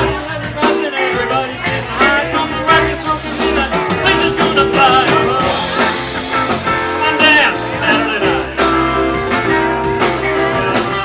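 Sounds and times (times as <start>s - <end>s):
live rock band playing: 0.0s - 11.0s
person singing: 0.0s - 11.0s.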